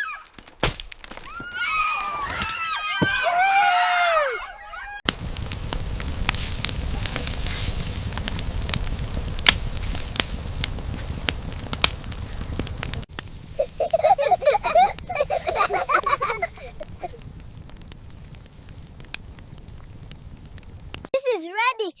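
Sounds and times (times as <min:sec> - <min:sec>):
campfire crackling: 0:00.0 - 0:21.4.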